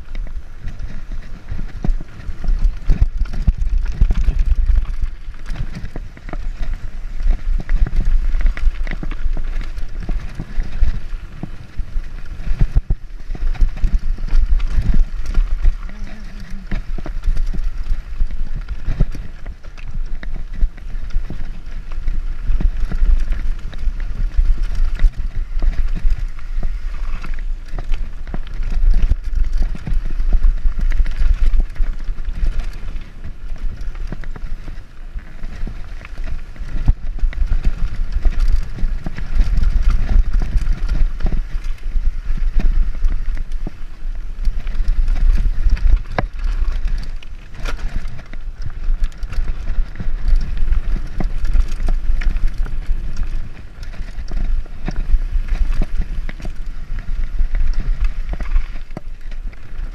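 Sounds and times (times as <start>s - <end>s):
mountain bike rattling over bumps: 0.0s - 59.9s
wind buffeting microphone: 0.0s - 59.9s.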